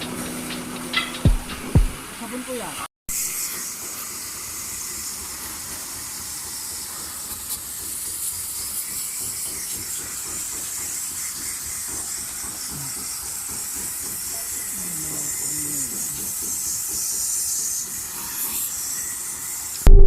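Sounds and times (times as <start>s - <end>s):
water spray jet hissing: 0.0s - 19.8s.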